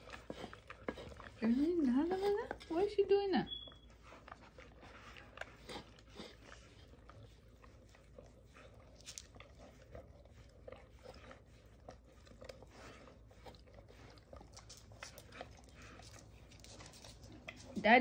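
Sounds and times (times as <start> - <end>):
dog licking a ceramic bowl: 0.0 - 18.0.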